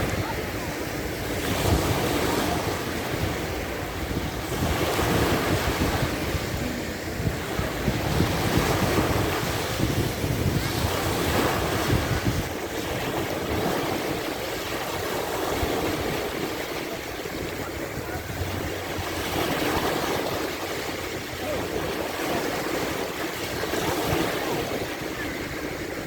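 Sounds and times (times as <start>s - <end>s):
waves washing onto beach: 0.0s - 26.0s
wind buffeting microphone: 0.0s - 26.0s.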